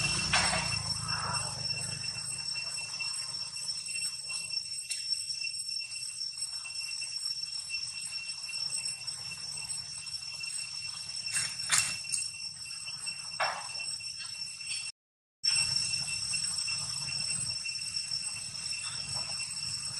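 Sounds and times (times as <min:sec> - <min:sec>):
insects droning: 0:00.0 - 0:14.9, 0:15.5 - 0:19.9.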